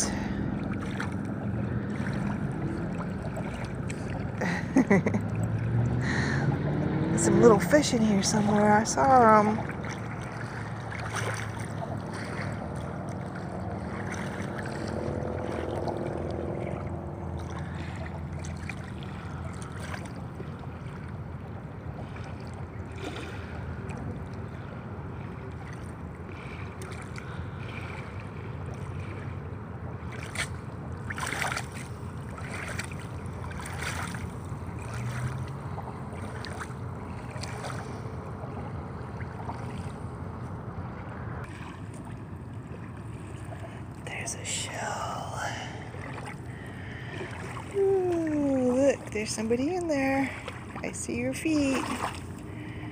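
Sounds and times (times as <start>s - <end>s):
shallow water lapping: 0.0s - 52.9s.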